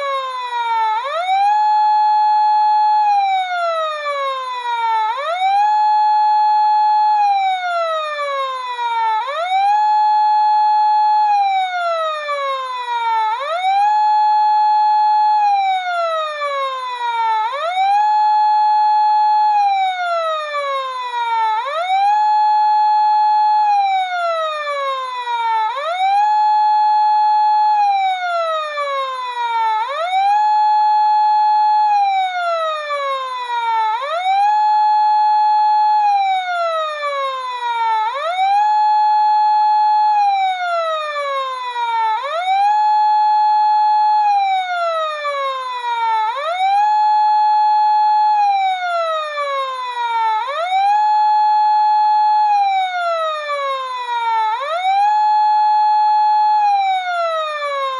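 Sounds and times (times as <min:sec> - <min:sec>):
electronic emergency siren: 0:00.0 - 0:57.9.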